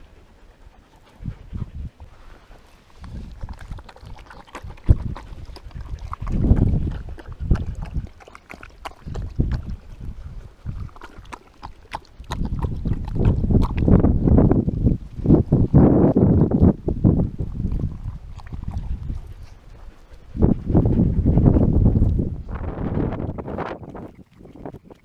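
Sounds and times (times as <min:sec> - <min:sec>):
dog lapping water: 0:00.0 - 0:25.0
wind rumble on microphone: 0:00.0 - 0:25.0.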